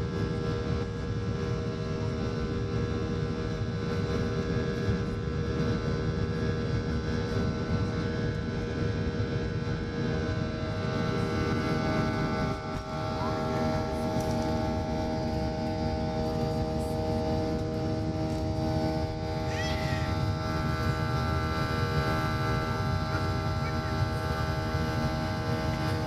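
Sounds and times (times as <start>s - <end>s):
jet engines from cabin: 0.0s - 26.0s
low rumble of aircraft rolling: 0.0s - 26.0s
steady whining tones: 0.0s - 26.0s.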